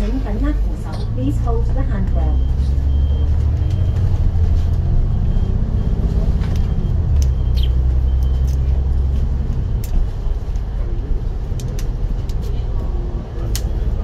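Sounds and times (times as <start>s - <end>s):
bus engine drone: 0.0s - 14.0s.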